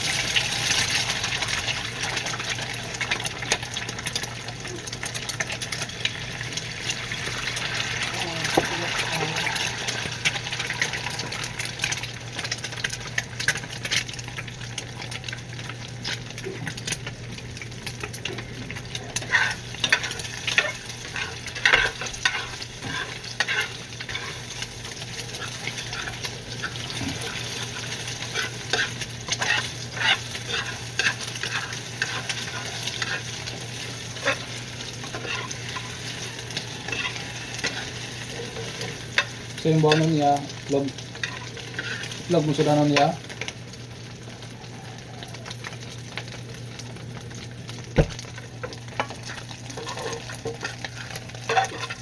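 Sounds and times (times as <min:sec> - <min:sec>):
egg sizzling in hot oil: 0:00.0 - 0:52.0.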